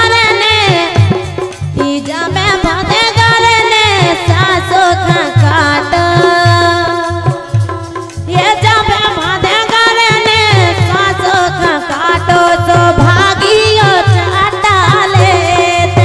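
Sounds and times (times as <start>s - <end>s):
drum beating steady rhythm: 0.0s - 16.0s
harmonium: 0.0s - 16.0s
woman singing into microphone: 0.0s - 16.0s.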